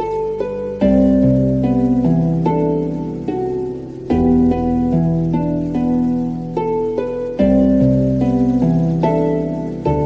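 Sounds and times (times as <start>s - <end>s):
plucked harp-like music: 0.0s - 10.0s.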